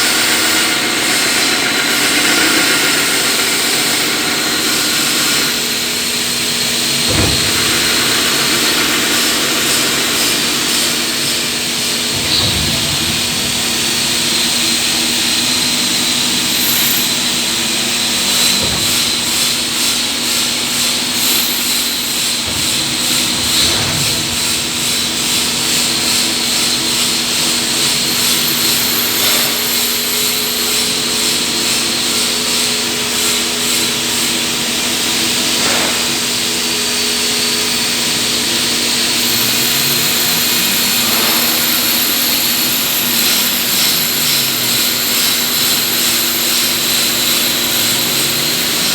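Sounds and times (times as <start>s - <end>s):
hiss: 0.0s - 48.9s
lathe machine hum: 0.0s - 48.9s.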